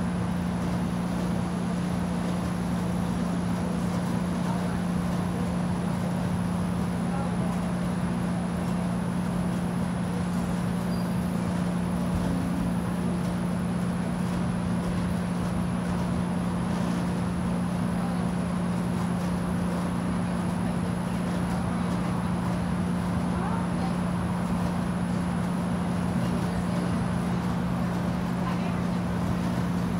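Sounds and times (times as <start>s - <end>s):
low mechanical hum: 0.0s - 29.9s.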